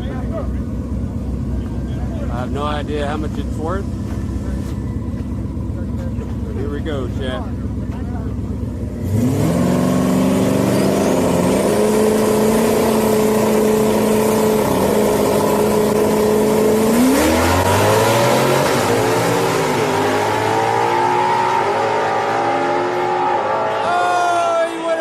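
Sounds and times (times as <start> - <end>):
racing car engines at full throttle: 0.0 - 25.0.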